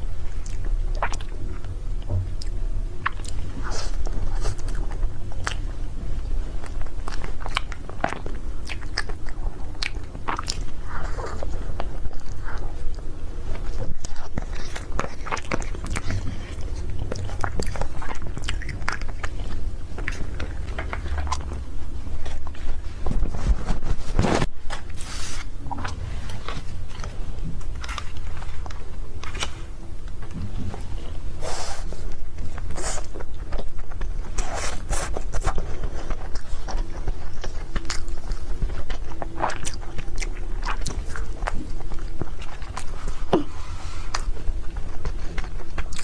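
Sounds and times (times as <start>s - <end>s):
chewing and biting cake: 0.0s - 46.0s.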